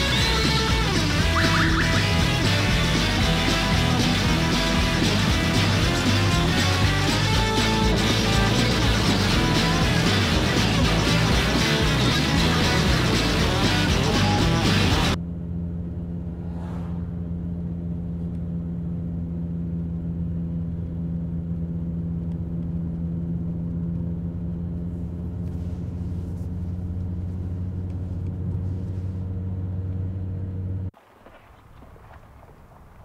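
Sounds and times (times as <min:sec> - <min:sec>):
car engine and road drone: 0:00.0 - 0:33.0.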